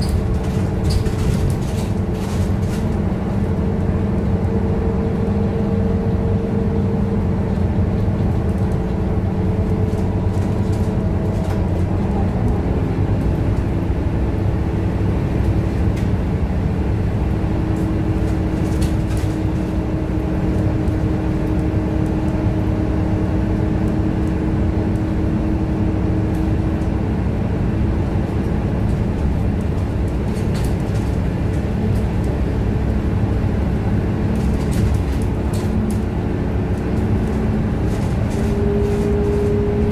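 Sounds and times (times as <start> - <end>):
bus engine humming: 0.0 - 39.9
drivetrain whine: 0.0 - 39.9.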